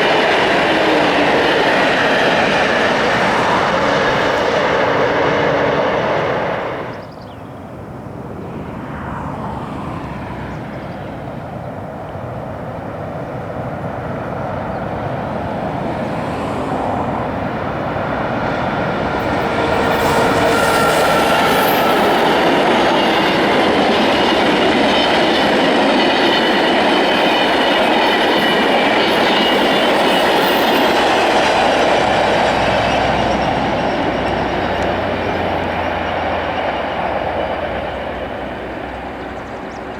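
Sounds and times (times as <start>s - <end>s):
train running on track: 0.0s - 39.9s.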